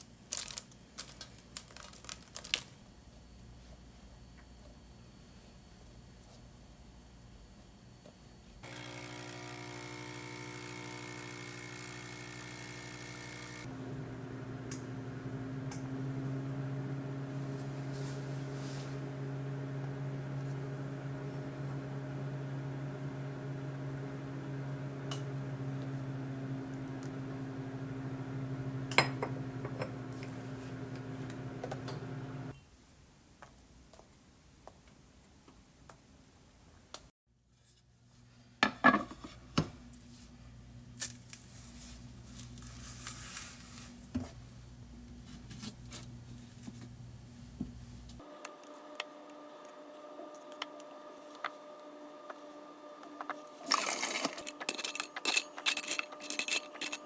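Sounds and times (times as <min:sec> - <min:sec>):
appliance electric hum: 0:03.4 - 0:32.6, 0:39.3 - 0:57.0.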